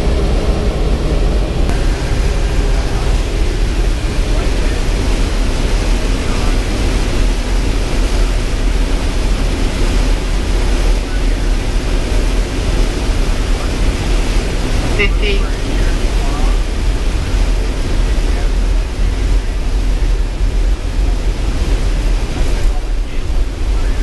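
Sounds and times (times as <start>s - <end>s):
jet engine and airflow noise: 0.0s - 24.0s.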